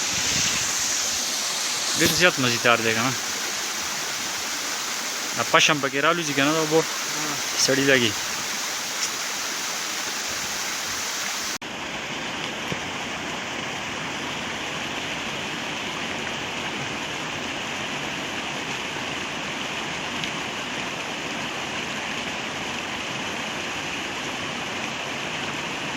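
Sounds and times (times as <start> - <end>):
waterfall rushing: 0.0 - 25.9.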